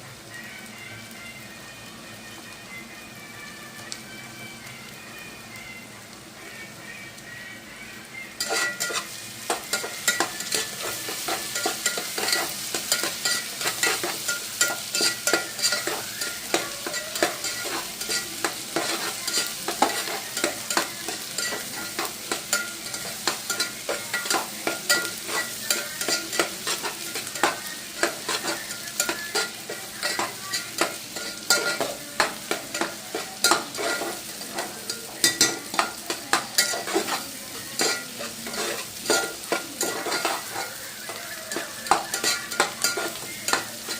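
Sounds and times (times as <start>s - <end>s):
food sizzling in hot oil: 0.0s - 43.9s
spoon scraping and clicking on pan: 8.4s - 43.9s.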